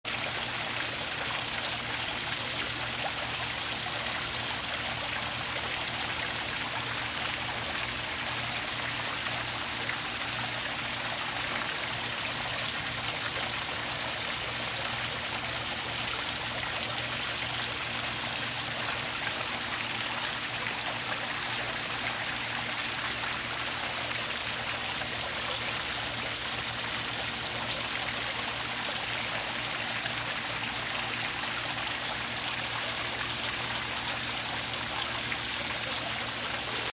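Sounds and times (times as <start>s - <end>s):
trickling water: 0.0s - 36.9s.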